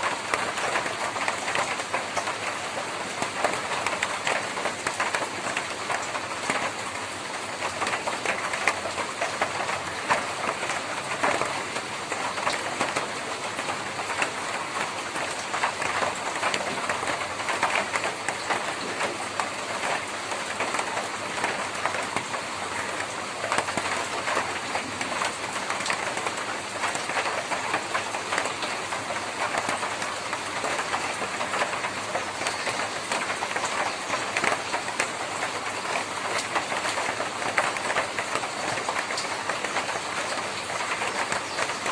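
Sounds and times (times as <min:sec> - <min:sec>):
rain on a tin roof: 0:00.0 - 0:41.9.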